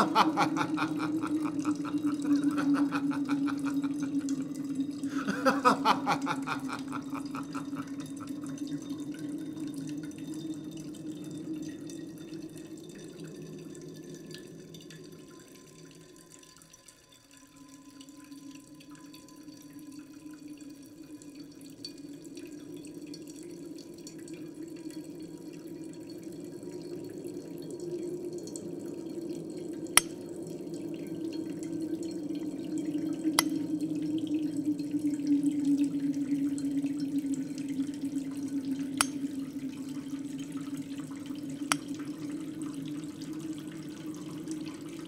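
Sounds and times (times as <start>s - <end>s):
low steady hum: 0.0s - 45.0s
water dripping: 0.0s - 45.0s.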